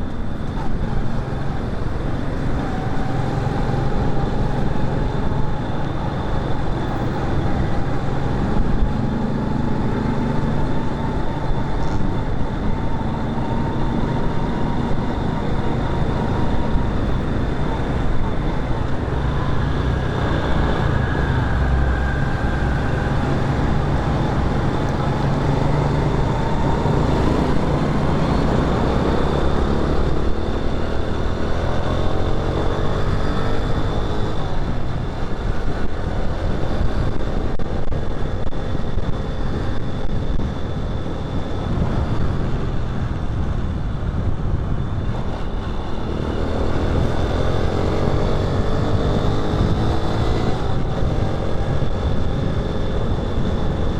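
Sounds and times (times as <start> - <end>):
motorcycle engine revving: 0.0 - 53.9
steady road noise: 0.0 - 53.9.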